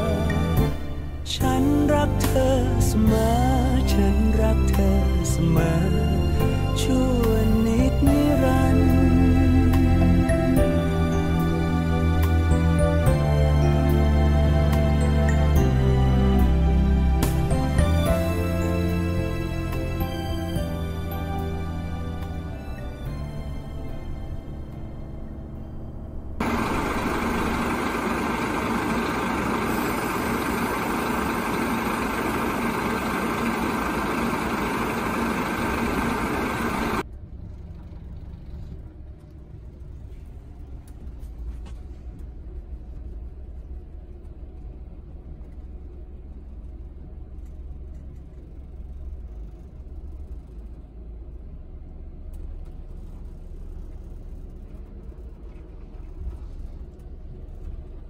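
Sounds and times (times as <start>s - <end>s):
low engine rumble: 0.0s - 58.0s
road and engine noise: 0.0s - 58.0s.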